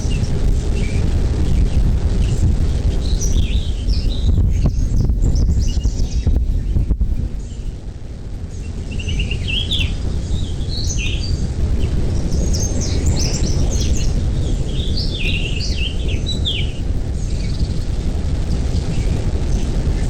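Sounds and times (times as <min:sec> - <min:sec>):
birds chirping: 0:00.0 - 0:07.8, 0:08.4 - 0:20.0
low rumble: 0:00.0 - 0:20.0.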